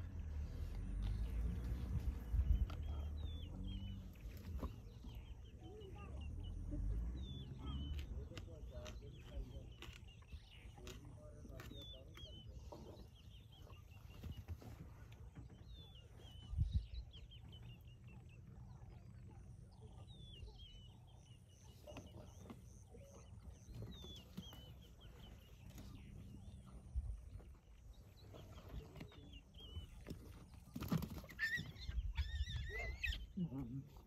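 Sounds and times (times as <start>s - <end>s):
low steady rumble: 0.0s - 30.7s
birds chirping: 0.0s - 34.0s.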